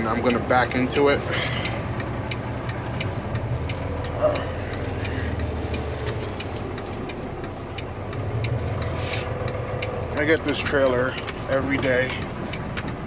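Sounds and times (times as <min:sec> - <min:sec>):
diesel truck engine running: 0:00.0 - 0:13.0
light clicks ticking: 0:00.0 - 0:13.0.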